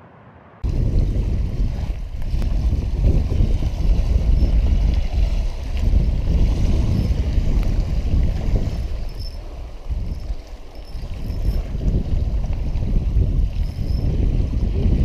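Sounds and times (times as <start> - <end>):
wind buffeting microphone: 0.6 - 15.0.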